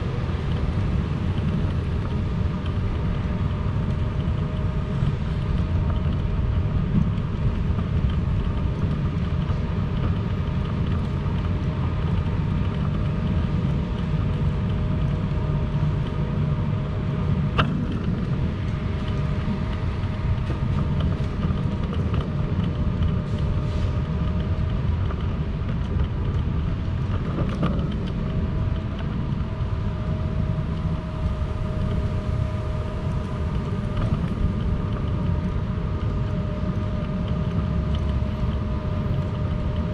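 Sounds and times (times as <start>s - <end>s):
constant humming tone: 0.0s - 39.9s
low street rumble: 0.0s - 39.9s.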